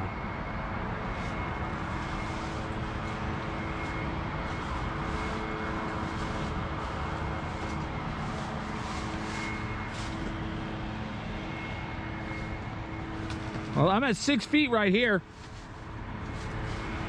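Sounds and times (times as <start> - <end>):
constant hum: 0.0 - 17.0
steady outdoor drone: 0.0 - 17.0.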